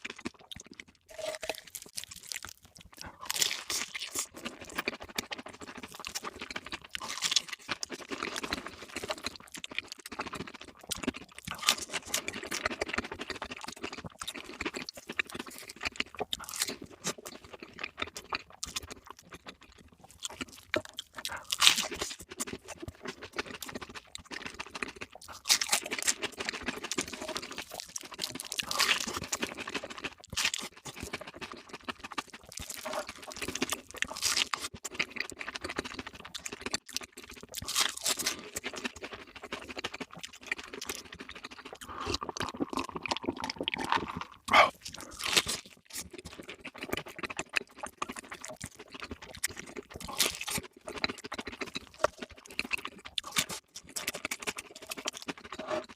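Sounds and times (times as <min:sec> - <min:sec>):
crunching crispy fried food: 0:00.0 - 0:55.9.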